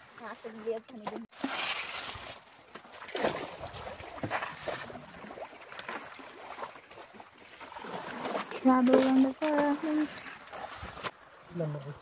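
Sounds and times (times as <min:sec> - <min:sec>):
paddle splashing in water: 0:00.0 - 0:11.3.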